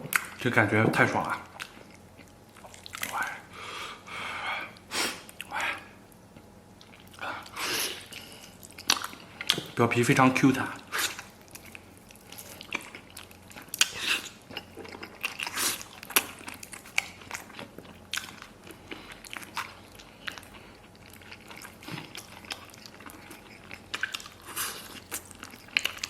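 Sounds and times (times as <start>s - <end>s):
wet chewing and smacking: 1.3s - 3.4s, 4.8s - 9.8s, 10.8s - 26.0s.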